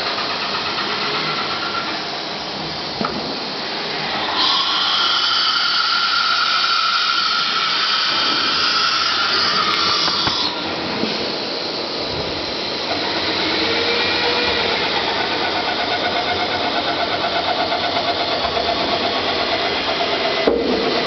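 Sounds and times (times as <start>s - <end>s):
router spindle high-pitched whine: 0.0s - 21.0s.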